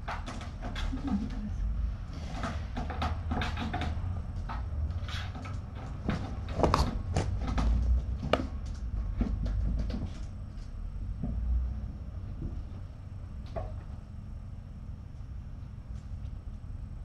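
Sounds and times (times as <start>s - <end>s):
kittens knocking and thumping: 0.0s - 14.0s
steady low hum: 0.0s - 17.0s.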